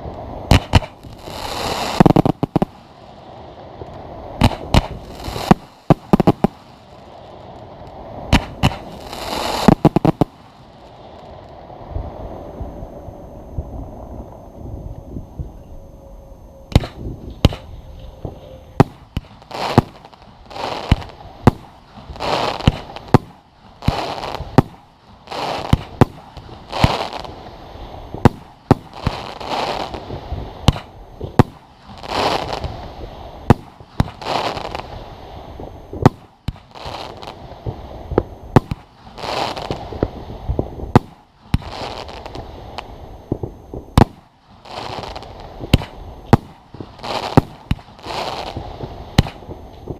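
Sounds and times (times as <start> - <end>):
fireworks bangs: 0.0 - 49.9
fireworks hissing: 0.0 - 49.9.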